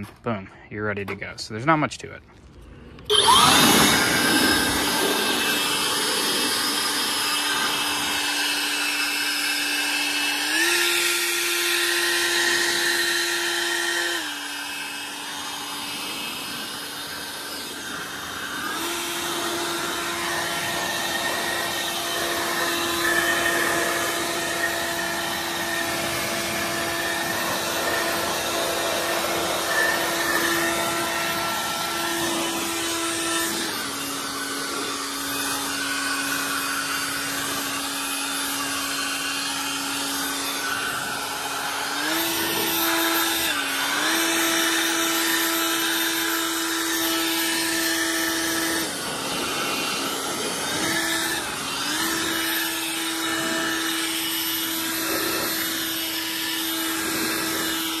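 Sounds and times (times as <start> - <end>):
leaf blower motor whine: 2.4 - 58.0.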